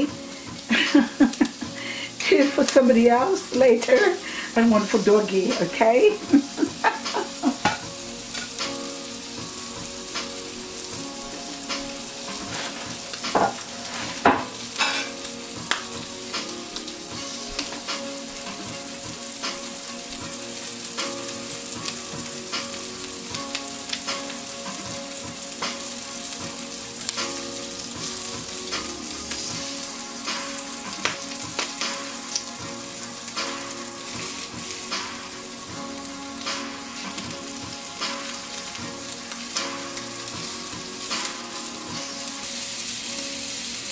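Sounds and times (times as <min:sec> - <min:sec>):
bacon sizzling in a frying pan: 0:00.0 - 0:43.9.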